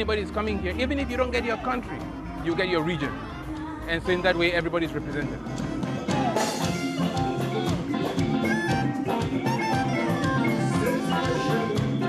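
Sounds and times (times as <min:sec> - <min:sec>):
band music with horns: 0:00.0 - 0:12.0.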